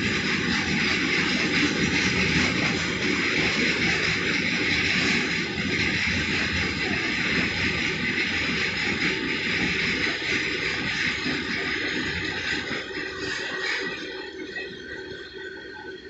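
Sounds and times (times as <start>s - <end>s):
steel wheels running on rails: 0.0s - 16.0s.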